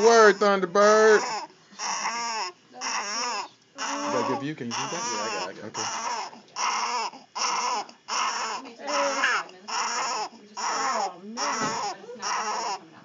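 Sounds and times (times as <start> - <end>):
newborn baby crying: 0.0 - 12.9.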